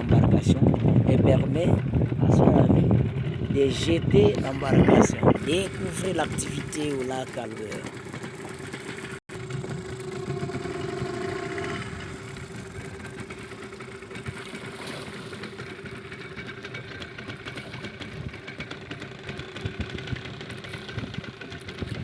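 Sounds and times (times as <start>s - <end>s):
engine humming steadily: 0.0s - 22.0s.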